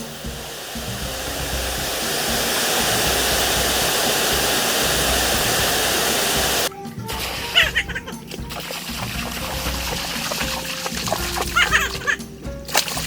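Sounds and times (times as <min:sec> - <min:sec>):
background music: 0:00.0 - 0:13.0
flowing water rushing: 0:00.0 - 0:13.0.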